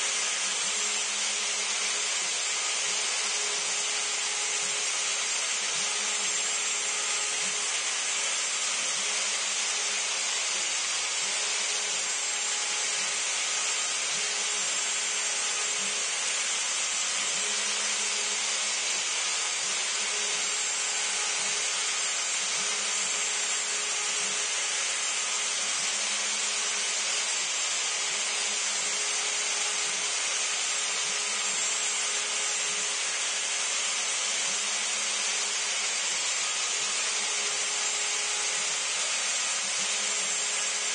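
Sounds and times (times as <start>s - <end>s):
router bit cutting wood: 0.0s - 40.9s.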